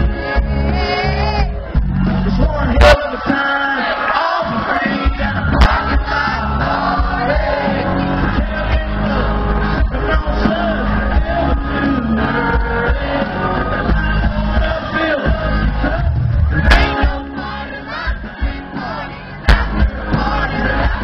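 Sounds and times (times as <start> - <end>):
amplified country music with singer: 0.0 - 21.0
crowd shouting and whooping: 0.0 - 21.0.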